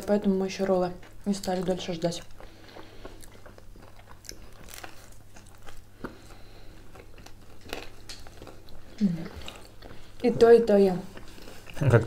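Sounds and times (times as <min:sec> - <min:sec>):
chewing and biting food: 0:00.6 - 0:12.0.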